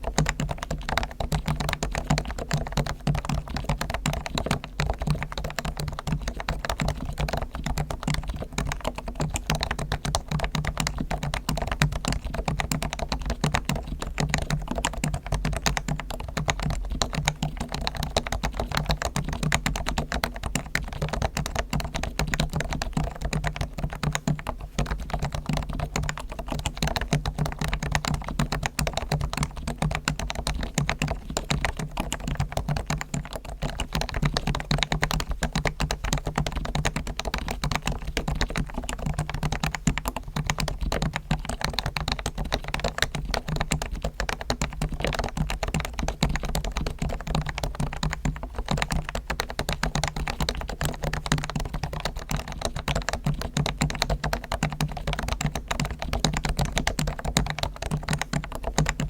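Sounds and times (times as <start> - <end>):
fast keyboard typing: 0.0 - 59.0.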